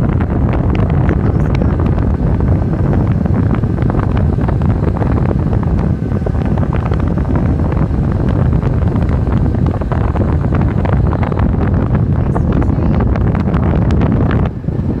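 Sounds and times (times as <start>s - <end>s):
scooter engine and road noise: 0.0s - 15.0s
wind buffeting microphone: 0.0s - 15.0s.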